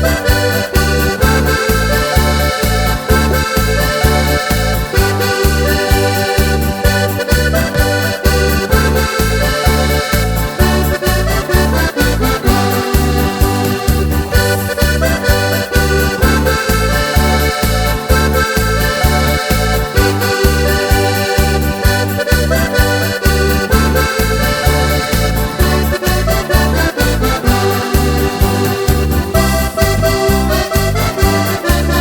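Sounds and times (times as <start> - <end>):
accordion-like melody: 0.0 - 32.0
bouncy bass beat: 0.0 - 32.0.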